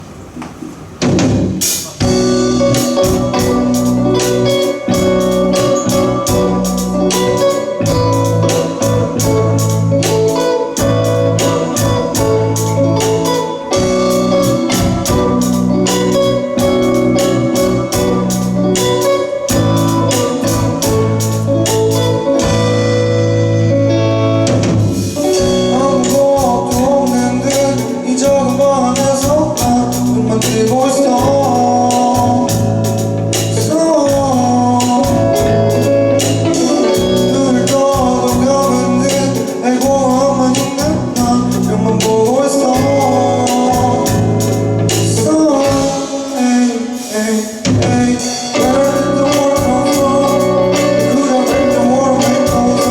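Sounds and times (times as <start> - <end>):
drums: 0.0 - 52.9
live rock band playing: 1.0 - 52.9
lead vocal singing: 1.8 - 23.3, 25.2 - 52.9.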